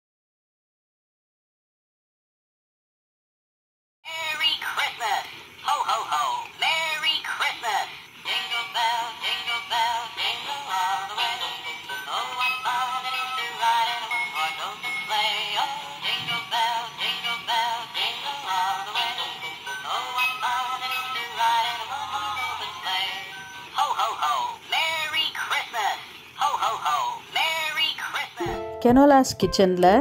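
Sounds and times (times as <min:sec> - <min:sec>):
toy playing electronic song: 0:04.1 - 0:28.9.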